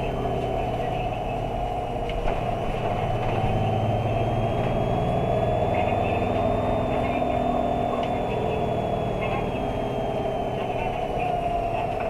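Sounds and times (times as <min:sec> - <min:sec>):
bus diesel engine running: 0:00.0 - 0:12.0
high-pitched whine: 0:00.0 - 0:12.0.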